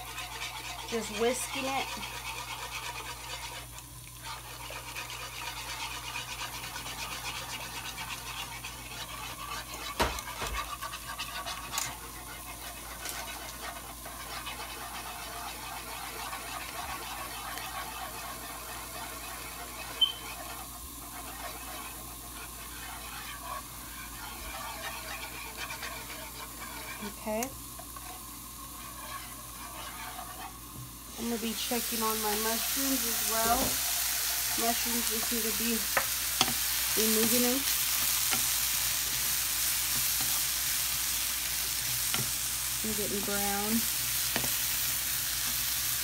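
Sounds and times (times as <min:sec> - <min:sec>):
whisk knocking against pan: 0:00.0 - 0:28.2, 0:28.8 - 0:37.6
whisk scraping and swishing: 0:00.0 - 0:46.0.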